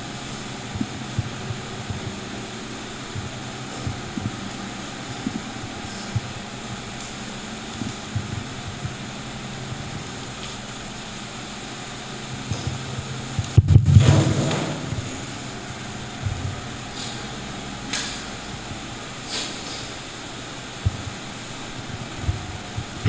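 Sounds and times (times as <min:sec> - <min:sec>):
room hum: 0:00.0 - 0:23.0.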